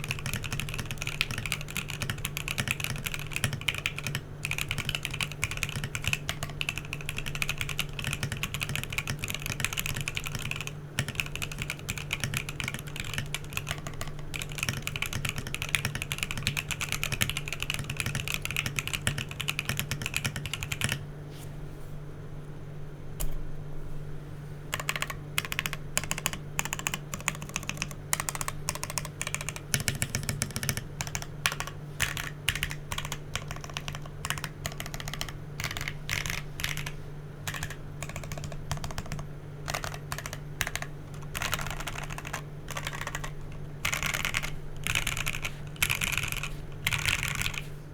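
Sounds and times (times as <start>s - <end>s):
keyboard typing: 0.0s - 21.0s, 24.7s - 47.7s
faint low hum: 0.0s - 47.9s.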